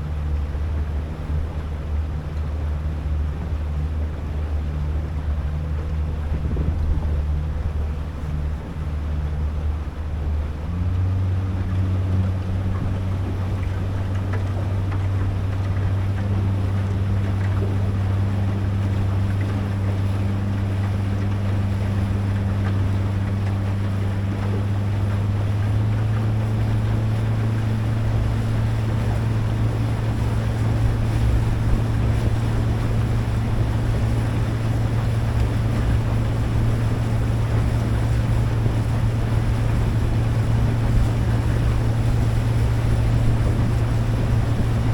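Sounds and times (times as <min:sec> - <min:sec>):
boat engine humming: 0:00.0 - 0:44.9
wind and water rushing: 0:00.0 - 0:44.9.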